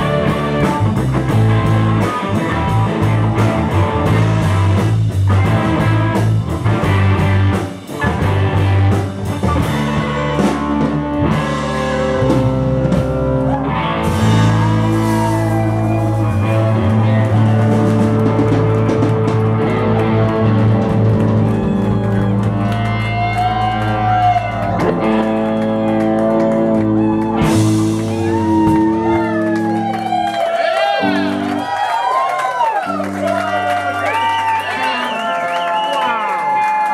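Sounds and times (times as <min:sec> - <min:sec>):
lead guitar bending notes: 0:00.0 - 0:31.8
drums: 0:00.0 - 0:36.9
electric guitars: 0:00.0 - 0:36.9.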